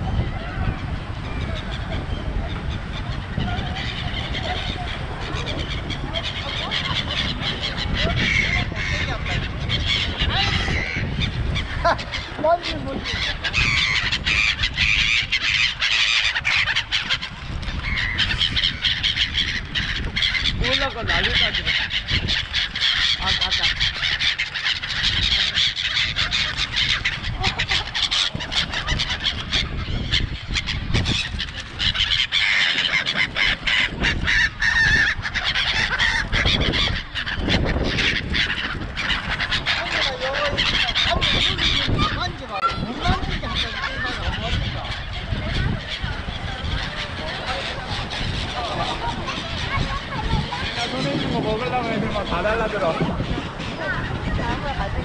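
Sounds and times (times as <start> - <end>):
gulls calling: 0.0 - 55.0.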